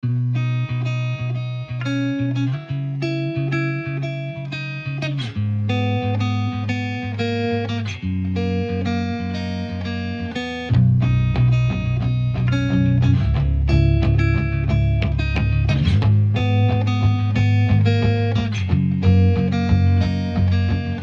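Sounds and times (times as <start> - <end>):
plucked guitar over bass: 0.0 - 21.0.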